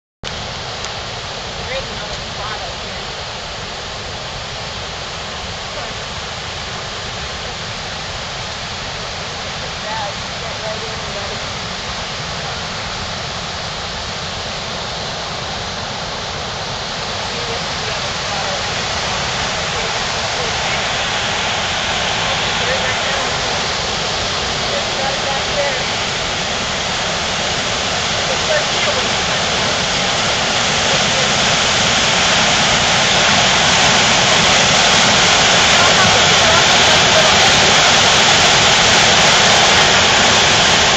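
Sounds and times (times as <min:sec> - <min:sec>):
fast-flowing river water: 0:00.2 - 0:40.9
rapids rushing over boulders: 0:00.2 - 0:40.9.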